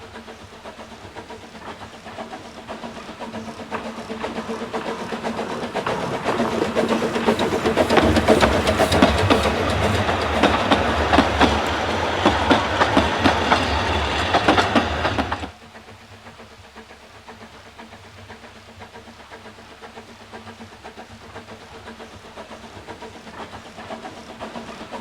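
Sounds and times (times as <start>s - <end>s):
train wheels clacking on rails: 0.0s - 25.0s.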